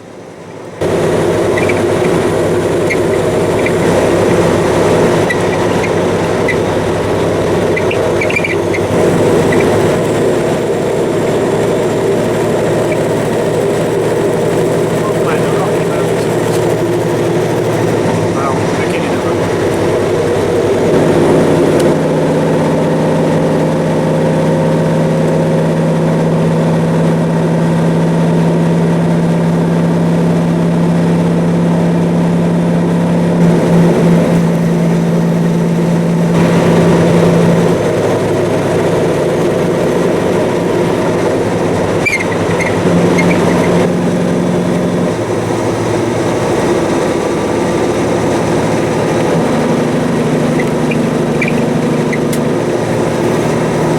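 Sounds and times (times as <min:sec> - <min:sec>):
truck diesel engine droning: 0:00.0 - 0:53.9.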